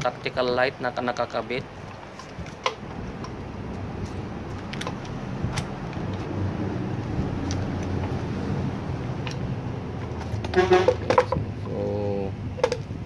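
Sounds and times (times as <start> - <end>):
low engine-like rumble: 0.2 - 13.0.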